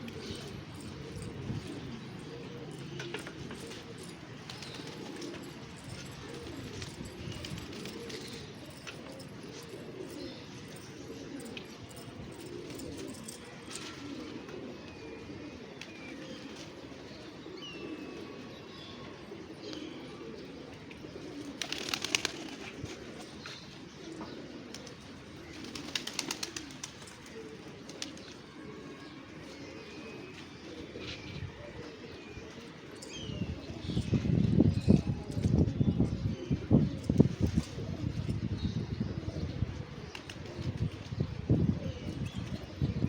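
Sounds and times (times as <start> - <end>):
pigeons cooing: 0.0 - 43.0.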